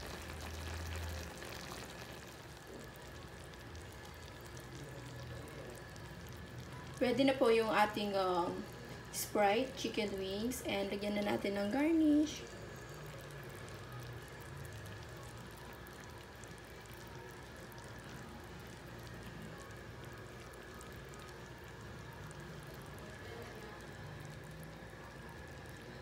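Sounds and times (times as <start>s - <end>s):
sauce bubbling in a pan: 0.0s - 26.0s.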